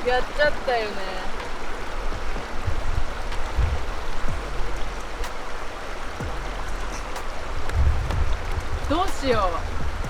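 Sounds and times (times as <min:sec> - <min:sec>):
stream water running: 0:00.0 - 0:10.0
wind thumps on microphone: 0:01.3 - 0:10.0.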